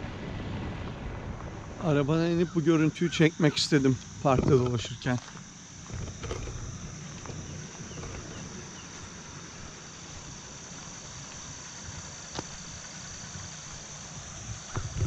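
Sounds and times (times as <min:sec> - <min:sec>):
high-pitched insect chorus: 0:00.7 - 0:15.0.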